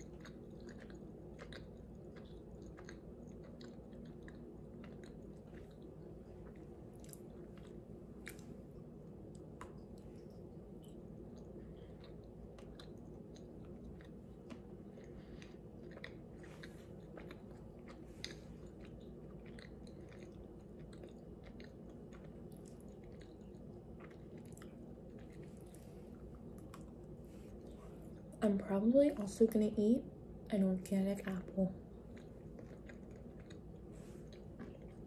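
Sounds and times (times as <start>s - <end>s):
person chewing: 0.0s - 28.4s, 31.9s - 35.0s
low hum: 0.0s - 35.0s.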